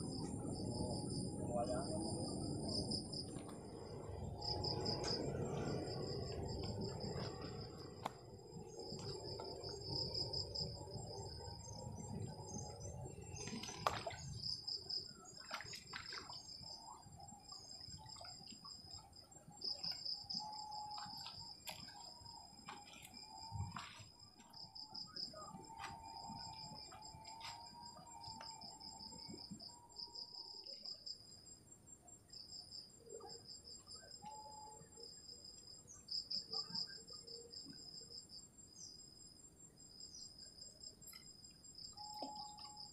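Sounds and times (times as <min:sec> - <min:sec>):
crickets trilling: 0:00.0 - 0:42.9.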